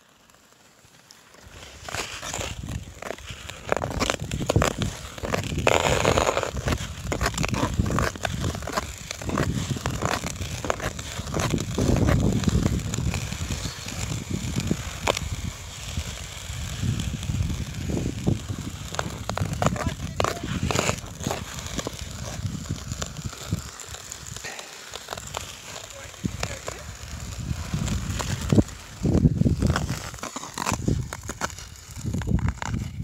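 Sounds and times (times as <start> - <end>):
ice skate blades scraping ice: 0.0 - 33.0.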